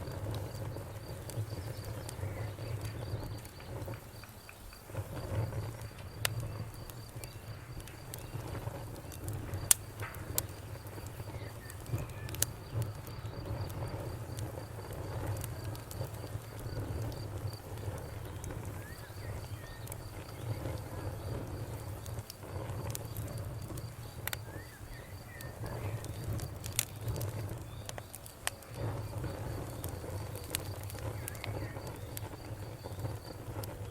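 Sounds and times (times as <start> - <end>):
campfire crackling and popping: 0.0 - 33.9
insect trill: 0.0 - 33.9.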